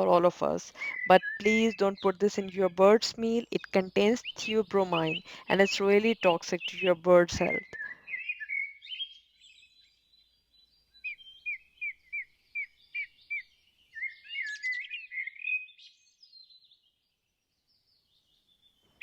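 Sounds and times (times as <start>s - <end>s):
small songbird singing: 0.0s - 17.0s.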